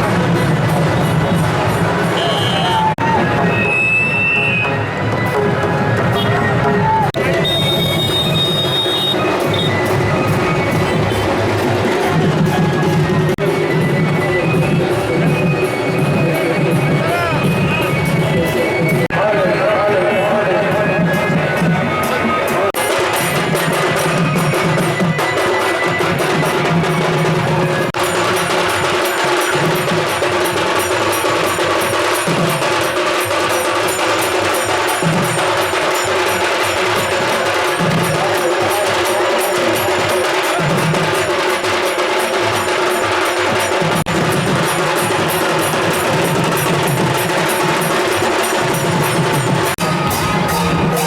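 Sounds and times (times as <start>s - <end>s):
percussion-led music: 0.0s - 51.0s.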